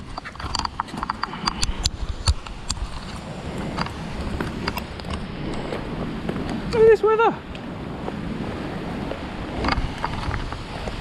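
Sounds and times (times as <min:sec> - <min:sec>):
surf: 0:00.0 - 0:11.0
wind: 0:00.0 - 0:11.0.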